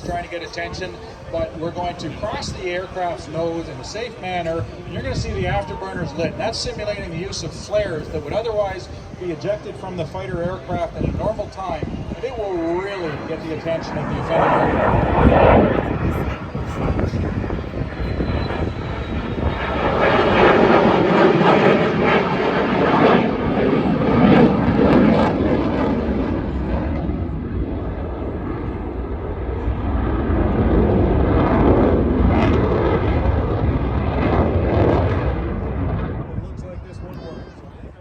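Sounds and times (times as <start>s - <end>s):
fighter jet engine passing low: 0.0s - 38.0s.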